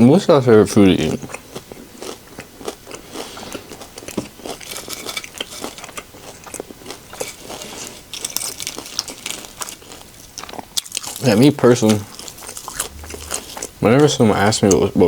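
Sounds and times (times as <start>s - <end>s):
person chewing crunchy chips: 0.7s - 14.9s.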